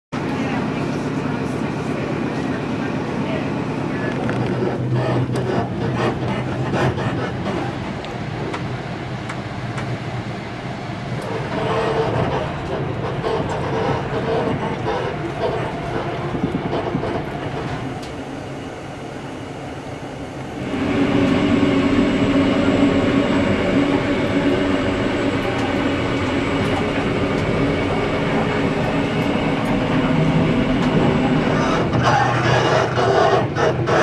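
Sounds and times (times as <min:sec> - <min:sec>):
train carriage rumbling on track: 0:00.1 - 0:34.0
low hum: 0:00.2 - 0:34.0.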